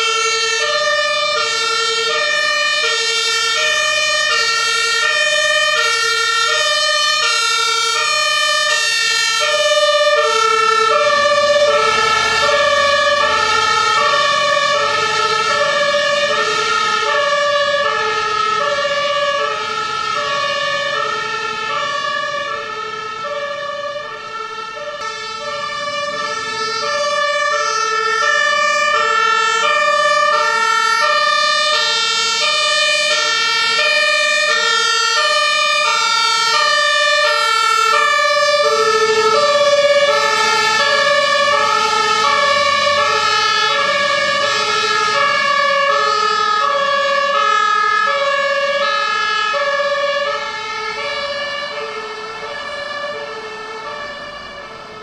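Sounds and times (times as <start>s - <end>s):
two-tone fire engine sirens: 0.0s - 55.0s.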